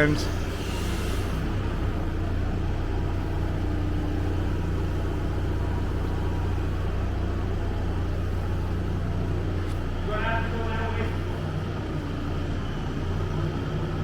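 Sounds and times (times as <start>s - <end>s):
engine droning at low speed: 0.0s - 14.0s.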